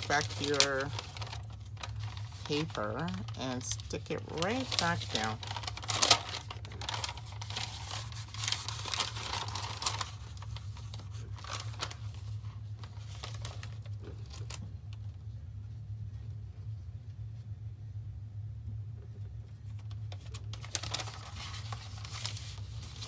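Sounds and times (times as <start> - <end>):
plastic film crinkling: 0.0 - 15.1, 19.6 - 23.0
low hum: 0.0 - 23.0.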